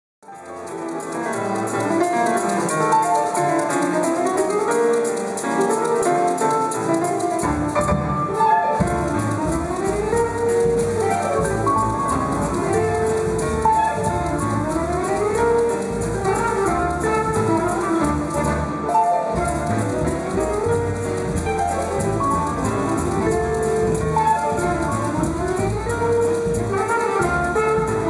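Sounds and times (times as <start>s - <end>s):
grand piano: 0.2s - 28.0s
jazz group playing: 0.3s - 28.0s.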